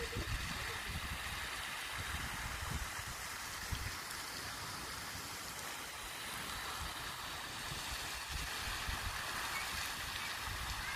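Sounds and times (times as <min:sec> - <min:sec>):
fountain spray hissing on water: 0:00.0 - 0:10.9.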